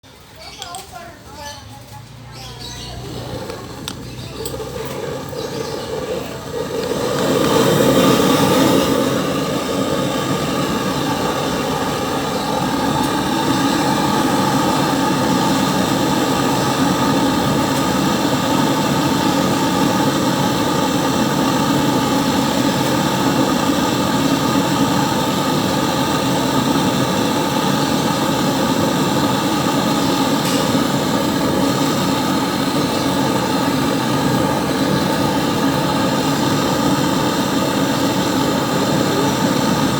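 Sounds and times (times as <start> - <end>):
torch flame roaring: 2.4 - 39.9.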